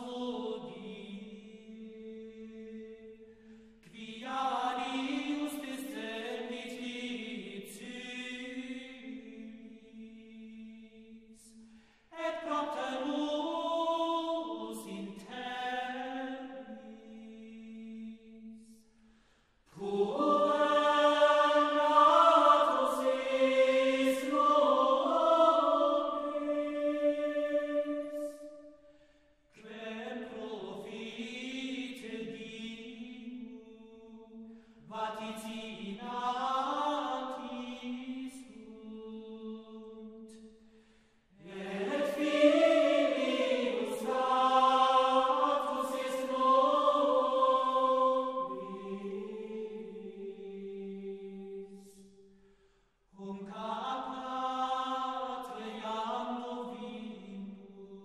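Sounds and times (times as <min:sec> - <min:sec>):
voices singing slow chant: 0:00.0 - 0:58.0.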